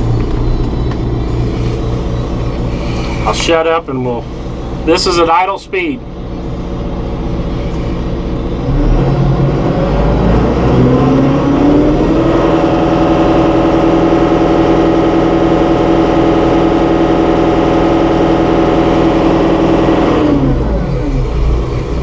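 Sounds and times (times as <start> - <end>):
tractor diesel engine from inside cab: 0.0 - 22.0.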